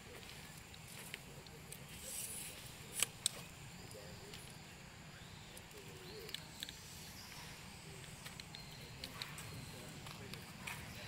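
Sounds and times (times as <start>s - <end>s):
faint high chirps: 1.7s - 11.0s.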